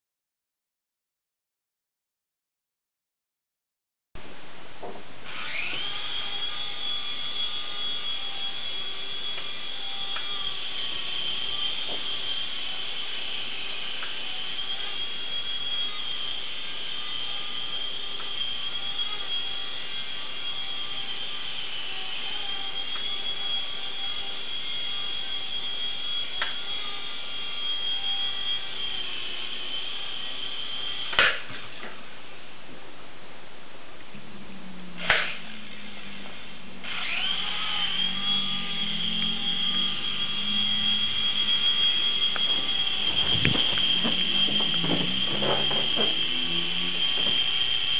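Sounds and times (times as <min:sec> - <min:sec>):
toy helicopter motor whining: 0:05.2 - 0:32.5, 0:34.1 - 0:47.9.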